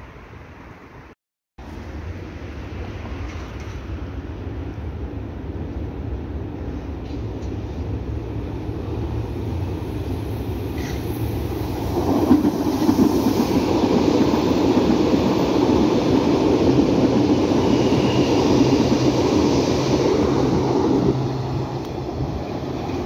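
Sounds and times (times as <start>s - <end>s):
train wheels rumbling on rails: 1.7s - 23.0s.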